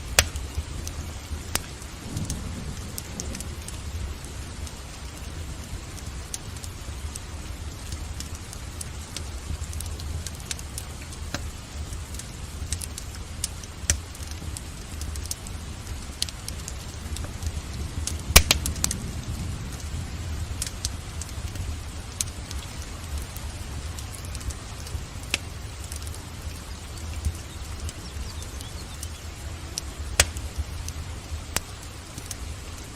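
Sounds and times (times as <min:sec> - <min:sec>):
loud crack of fire: 0:00.0 - 0:32.9
rain hissing: 0:00.0 - 0:32.9
wood fire crackling: 0:00.0 - 0:32.9.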